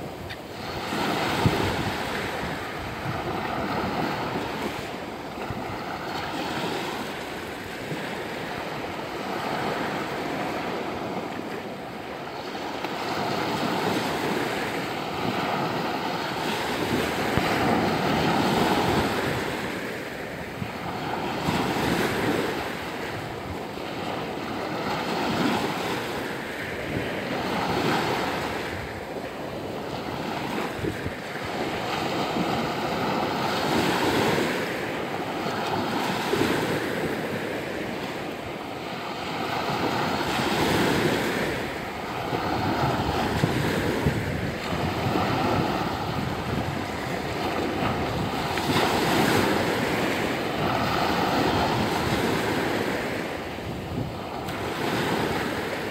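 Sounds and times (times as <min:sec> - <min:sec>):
small waves breaking on shore: 0:00.0 - 0:55.9.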